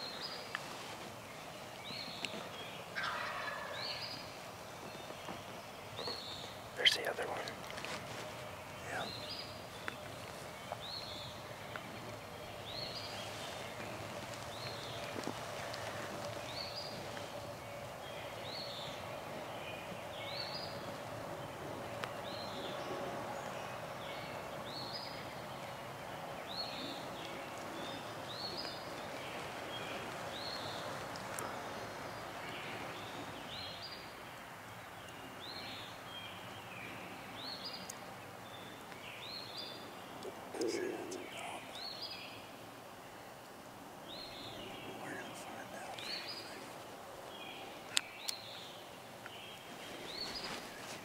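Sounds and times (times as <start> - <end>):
outdoor background noise: 0.0 - 51.0
songbird chirping: 0.0 - 51.0.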